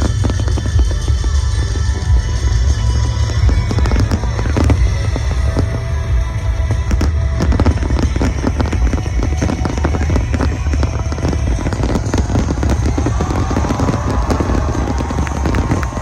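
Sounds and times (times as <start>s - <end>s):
fireworks bangs and crackles: 0.0s - 16.0s
low rumble: 0.0s - 16.0s
music playing: 0.0s - 16.0s.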